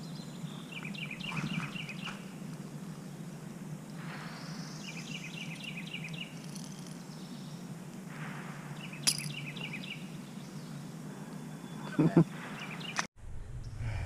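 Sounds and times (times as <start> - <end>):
songbird chirping: 0.0 - 8.0, 8.6 - 13.8
low background noise: 0.0 - 14.0.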